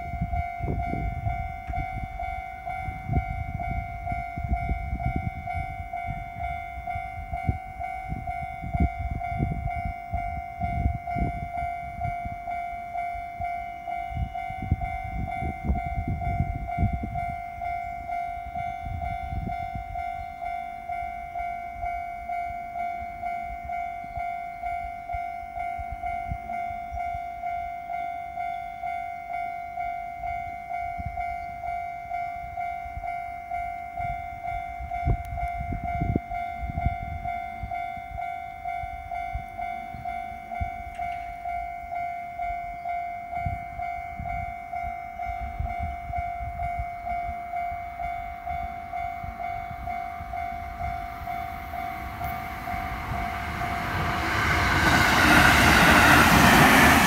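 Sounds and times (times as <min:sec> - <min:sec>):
level crossing bell ringing: 0:00.0 - 0:57.0
train wheels on rails: 0:00.0 - 0:57.0.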